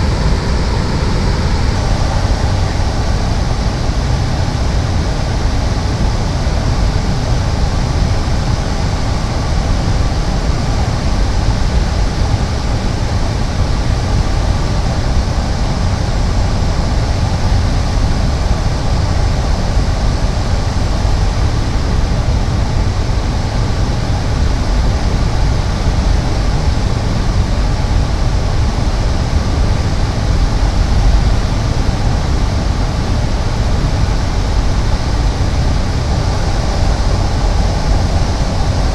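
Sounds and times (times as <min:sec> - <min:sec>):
turboprop engine droning: 0:00.0 - 0:38.9.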